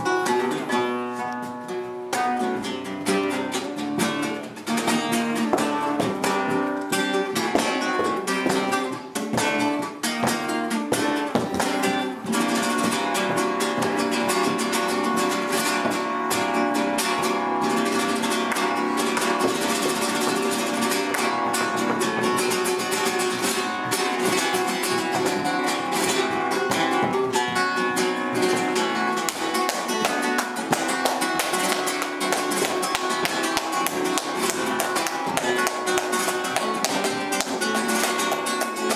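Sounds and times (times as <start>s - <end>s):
flamenco guitar strumming: 0.0s - 38.9s.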